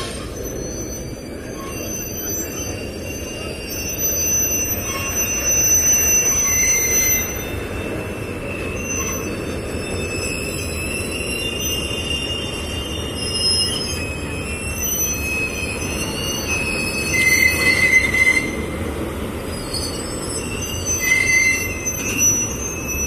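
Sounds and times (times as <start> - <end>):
train rumbling: 0.0 - 23.0
train wheels squealing: 0.0 - 23.0.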